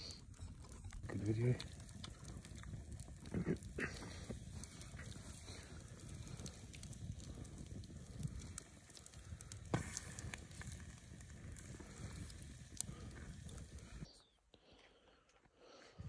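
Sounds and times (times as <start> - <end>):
loud wood crack: 0.0 - 14.0
wood fire crackling: 0.0 - 15.8.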